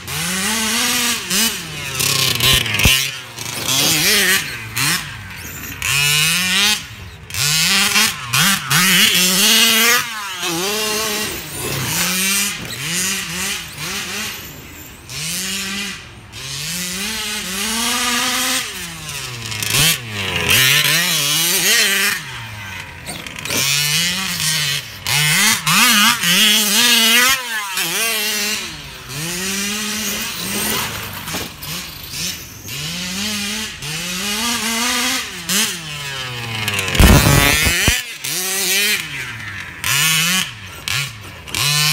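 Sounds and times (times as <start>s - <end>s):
rc car motors revving: 0.0s - 41.9s
tyres on rough ground: 0.1s - 16.6s, 17.7s - 33.1s, 33.9s - 41.9s.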